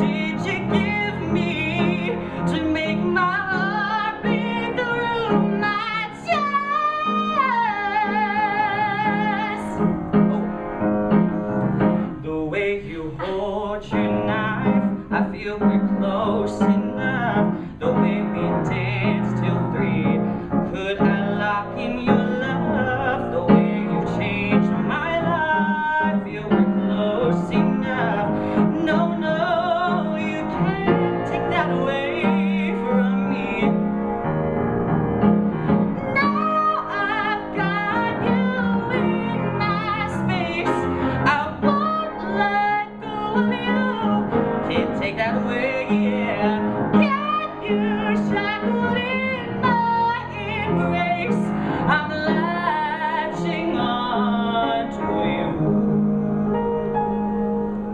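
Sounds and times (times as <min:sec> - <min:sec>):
person singing with vibrato: 0:00.0 - 0:10.4, 0:11.8 - 0:34.0, 0:35.5 - 0:57.9
piano accompaniment: 0:00.0 - 0:57.9.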